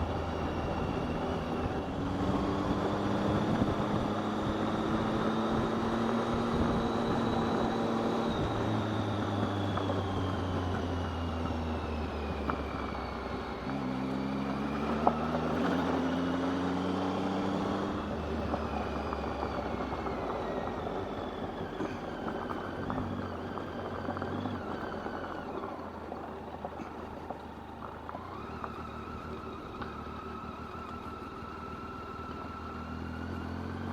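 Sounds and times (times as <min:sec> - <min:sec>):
motorcycle engine running: 0:00.0 - 0:33.9
tyres on gravel road: 0:00.0 - 0:33.9.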